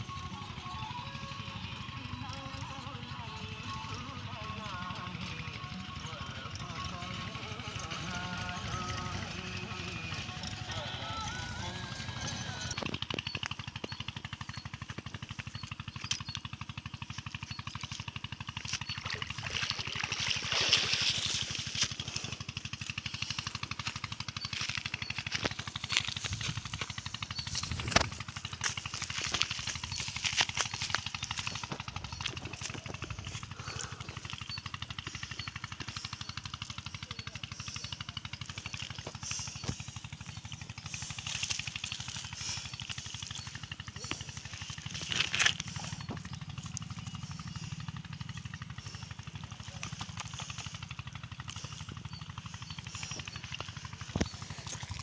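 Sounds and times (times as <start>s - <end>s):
small engine puttering: 0.0s - 55.0s.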